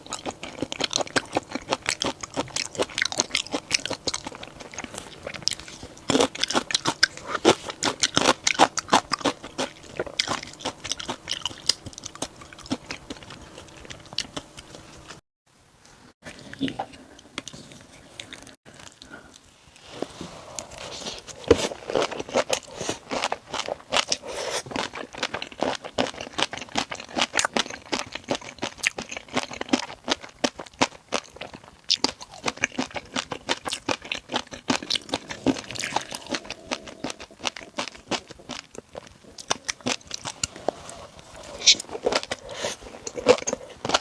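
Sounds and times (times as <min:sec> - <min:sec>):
crunchy chewing of food: 0:00.0 - 0:15.2, 0:16.3 - 0:44.0.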